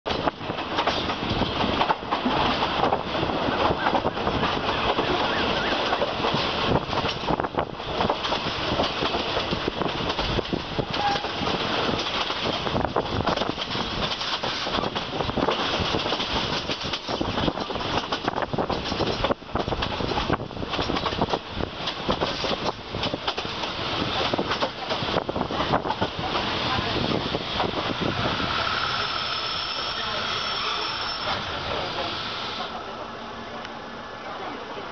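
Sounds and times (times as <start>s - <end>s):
rail joint clacks: 0.1s - 32.8s
rumble of wheels on rails: 0.1s - 34.9s.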